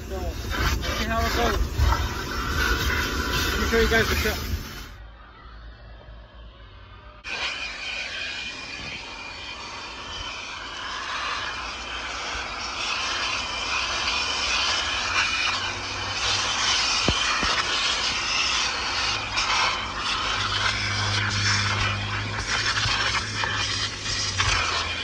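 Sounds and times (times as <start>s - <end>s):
vacuum cleaner on rubber mat: 0.0s - 4.6s, 7.3s - 25.0s.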